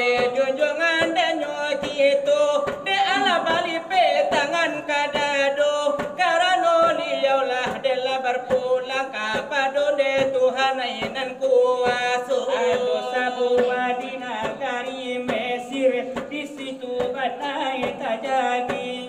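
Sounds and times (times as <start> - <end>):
male voices chanting: 0.0 - 19.0.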